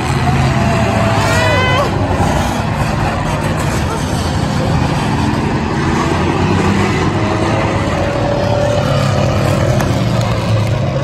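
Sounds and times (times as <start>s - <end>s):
race car engines running loudly: 0.0s - 11.0s.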